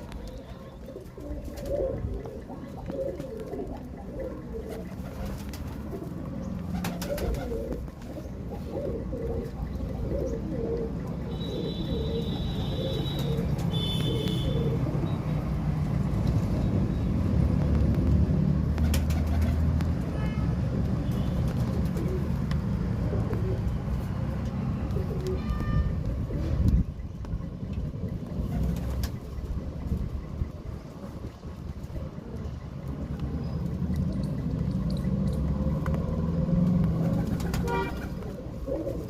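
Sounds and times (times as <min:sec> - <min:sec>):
pigeons cooing: 0:00.0 - 0:16.0, 0:21.0 - 0:39.0.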